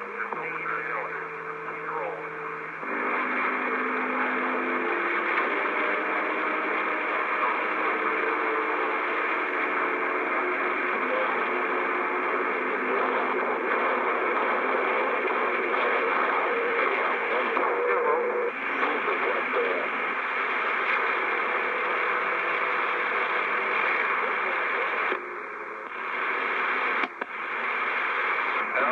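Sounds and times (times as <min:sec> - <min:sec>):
radio static hiss: 0:00.0 - 0:28.9.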